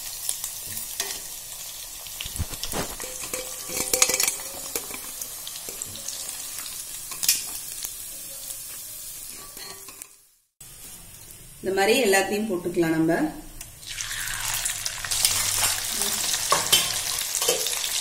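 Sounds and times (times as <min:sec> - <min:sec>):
hot oil sizzling: 0:00.0 - 0:12.4, 0:13.6 - 0:18.0.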